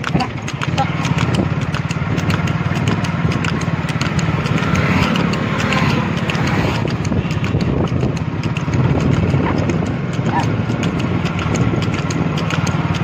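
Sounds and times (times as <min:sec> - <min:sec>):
cart wheels rumbling: 0:00.0 - 0:13.0
hooves clopping on asphalt: 0:00.0 - 0:13.0.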